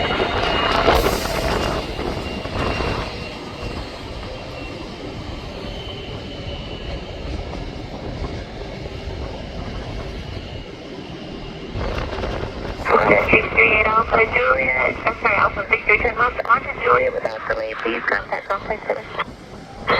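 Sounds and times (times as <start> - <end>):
jet engine rumble with whine: 0.0 - 19.9.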